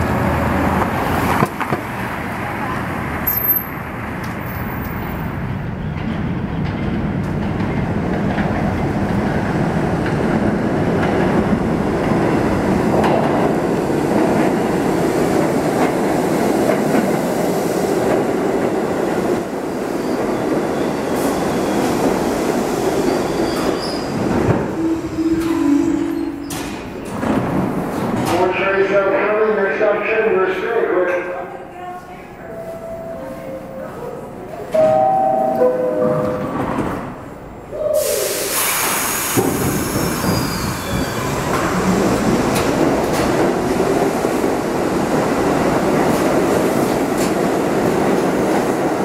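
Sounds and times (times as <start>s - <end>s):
subway train on steel wheels: 0.0s - 49.0s.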